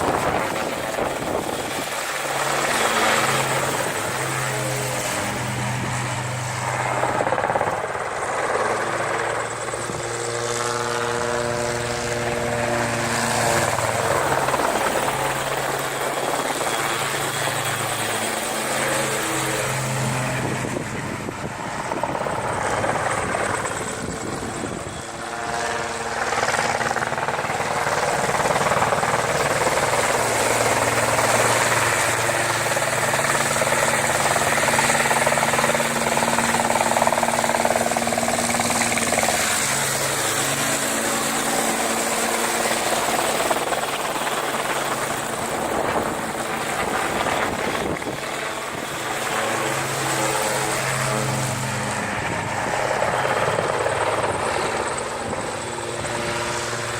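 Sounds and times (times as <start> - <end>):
helicopter droning: 0.0 - 56.9.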